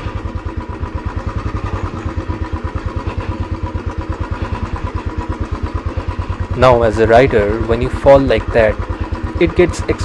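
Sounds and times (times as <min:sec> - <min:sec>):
motorcycle engine thumping: 0:00.0 - 0:10.0.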